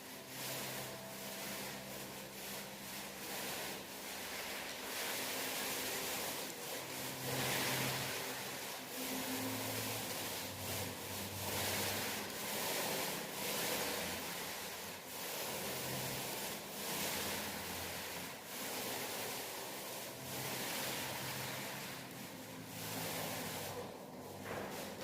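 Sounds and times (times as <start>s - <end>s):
paint roller wet hiss on wall: 0.0s - 25.0s.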